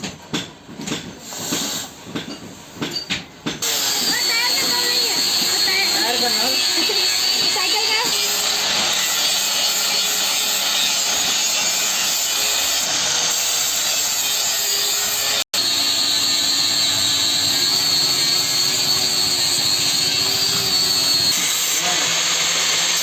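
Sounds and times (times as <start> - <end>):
electric grinder grinding steel: 3.6 - 23.0.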